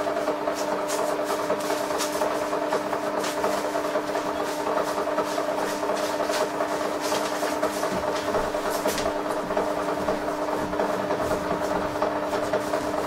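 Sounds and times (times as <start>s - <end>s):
thermal printer whirring: 0.0s - 13.0s.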